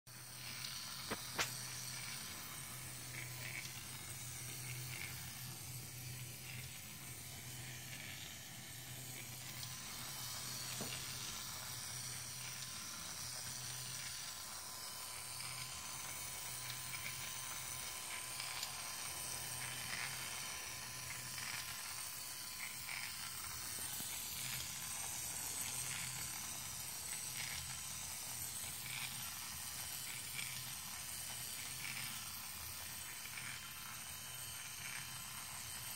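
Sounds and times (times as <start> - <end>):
small electric motor humming: 0.1 - 35.9.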